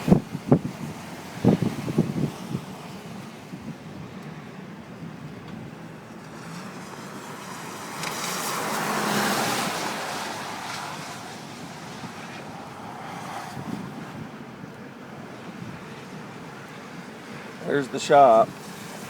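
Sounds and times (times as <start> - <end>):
highway traffic rushing: 0.0 - 19.0
wind: 0.0 - 19.0.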